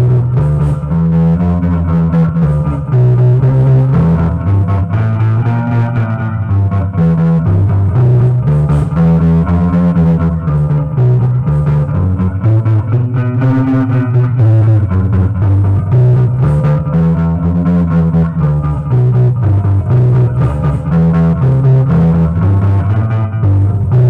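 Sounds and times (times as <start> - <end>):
blues guitar playing: 0.0 - 24.0.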